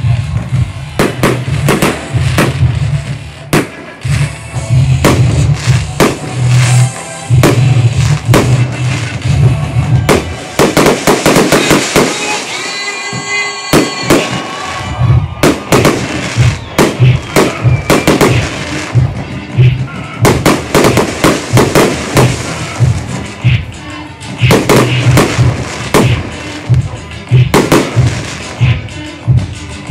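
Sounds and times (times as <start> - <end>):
music with pulsing bass: 0.0 - 12.1, 13.1 - 29.9
fireworks bangs: 0.0 - 29.5.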